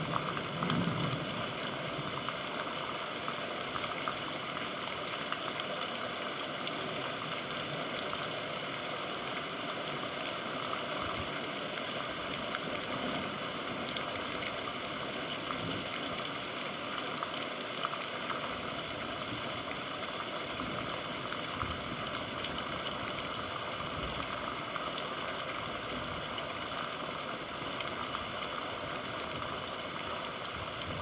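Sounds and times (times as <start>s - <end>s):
steady rainfall hiss: 0.0s - 31.0s.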